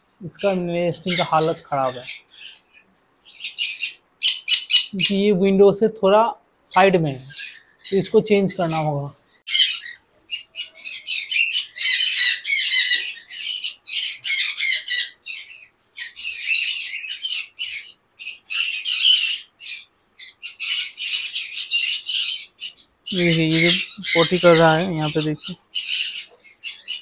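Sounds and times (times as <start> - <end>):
parrots squawking: 0.1 - 5.3, 6.7 - 27.0.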